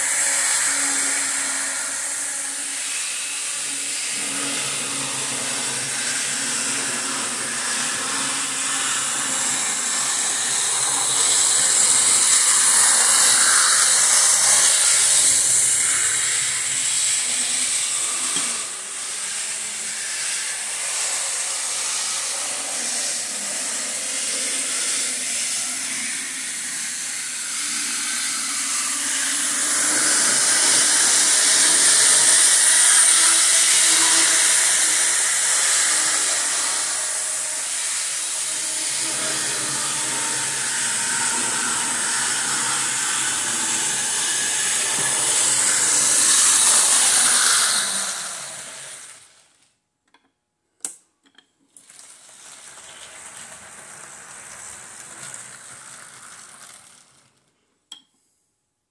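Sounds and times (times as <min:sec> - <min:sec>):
model steam train hissing: 0:00.0 - 0:49.4, 0:51.9 - 0:57.1.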